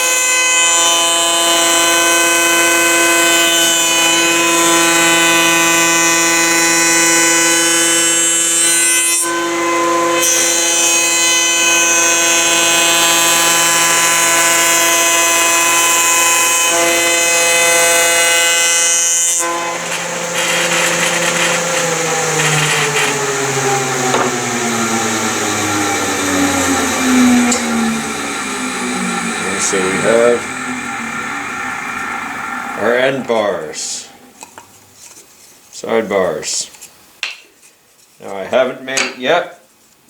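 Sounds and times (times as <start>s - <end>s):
power tool motor running: 0.0s - 32.9s
motor winding down: 0.1s - 34.4s.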